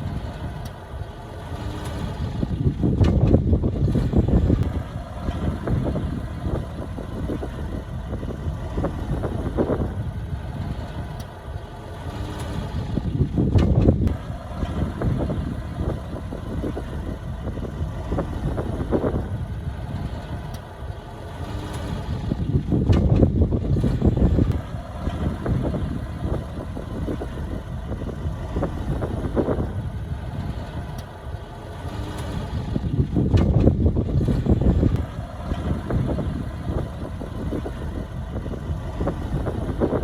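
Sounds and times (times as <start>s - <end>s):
bulldozer diesel engine under load: 0.0s - 40.0s.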